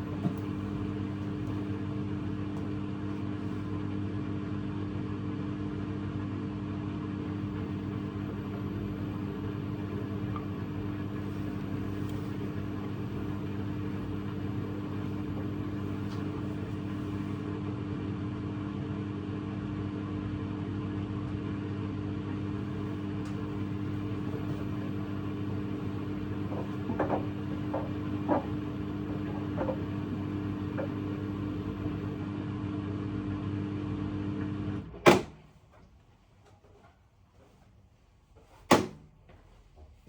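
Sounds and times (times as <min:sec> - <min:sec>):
washing machine spin cycle hum: 0:00.0 - 0:40.0.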